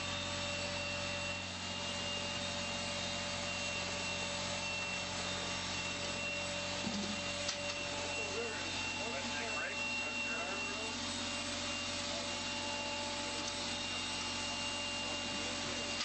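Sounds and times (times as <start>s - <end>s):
vacuum pump hum and whine: 0.0s - 16.0s.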